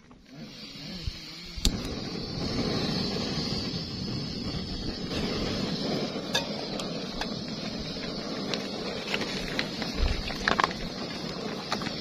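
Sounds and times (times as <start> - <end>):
gas stove hissing: 0.0 - 12.0.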